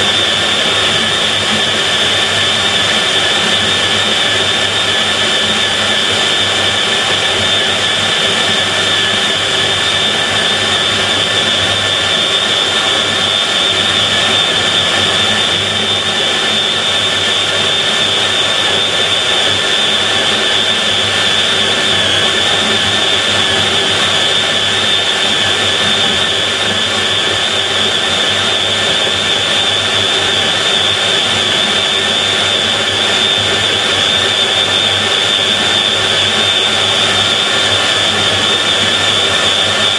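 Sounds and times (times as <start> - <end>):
core drill whining through steel: 0.0 - 39.9.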